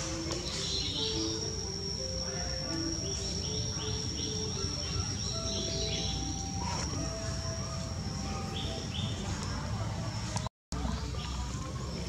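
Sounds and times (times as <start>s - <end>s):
high-pitched insect drone: 0.0s - 9.7s.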